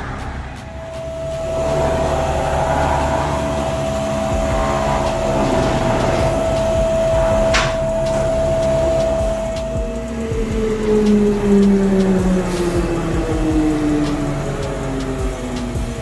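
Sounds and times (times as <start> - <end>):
car engine running: 0.0 - 16.0
steady high whine: 0.0 - 16.0.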